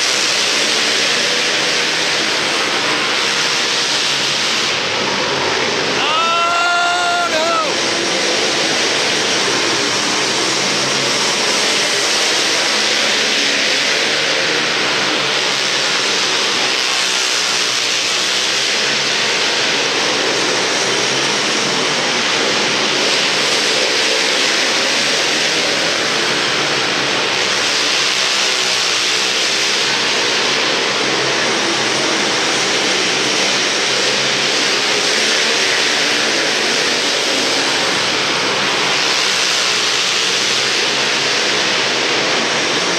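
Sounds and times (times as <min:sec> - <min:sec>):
constant loud hiss: 0:00.0 - 0:42.9
quad engines revving: 0:00.0 - 0:42.9.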